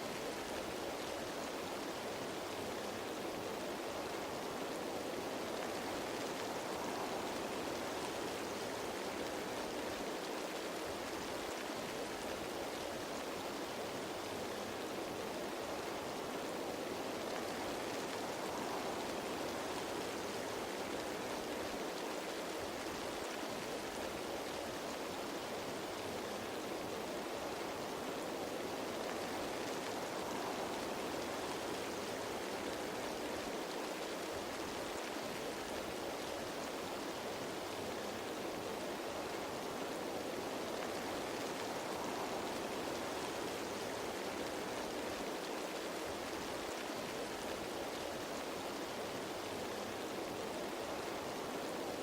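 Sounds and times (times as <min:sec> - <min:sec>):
rain falling on leaves: 0:00.0 - 0:52.0.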